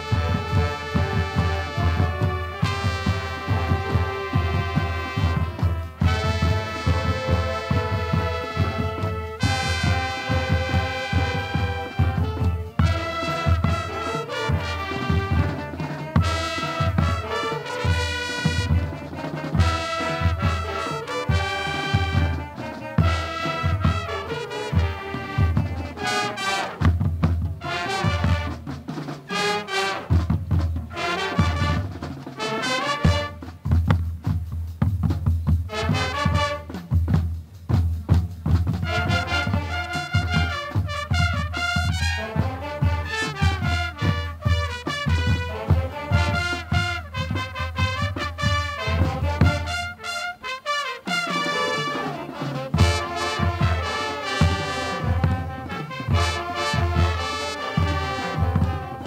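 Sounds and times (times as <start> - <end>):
brass melody: 0.0 - 33.9, 35.6 - 37.1, 38.7 - 59.0
steady drum beat: 0.0 - 59.0.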